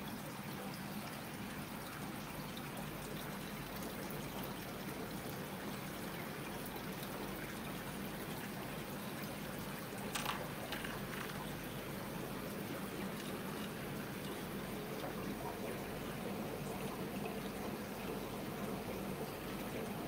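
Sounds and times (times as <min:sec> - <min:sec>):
aquarium water trickling: 0:00.0 - 0:20.0
low steady hum: 0:00.0 - 0:20.0.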